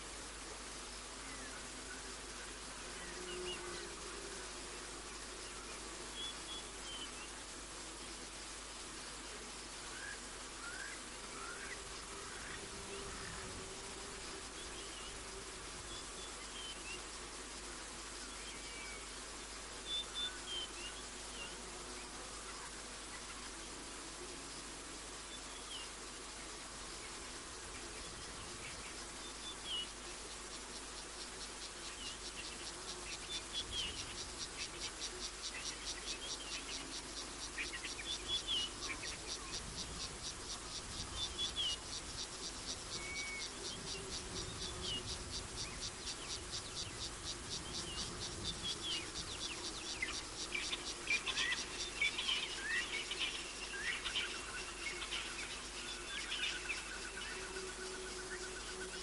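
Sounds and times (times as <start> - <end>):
insect pulsing trill: 0.0 - 59.0.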